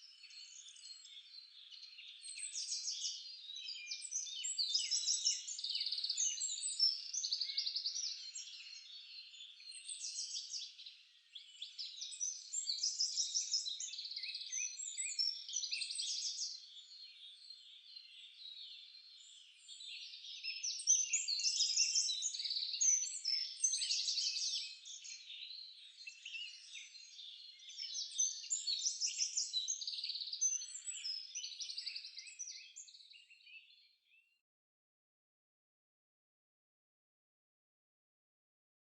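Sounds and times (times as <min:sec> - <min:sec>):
songbirds chirping and trilling: 0:00.0 - 0:34.4.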